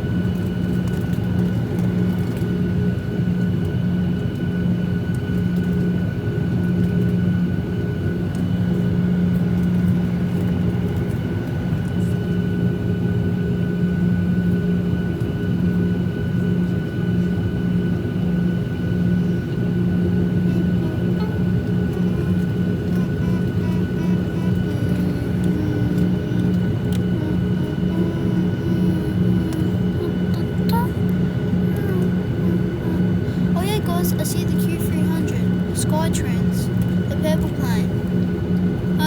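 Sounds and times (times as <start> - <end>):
high engine whine: 0.0 - 39.0
jet engine drone: 0.0 - 39.0.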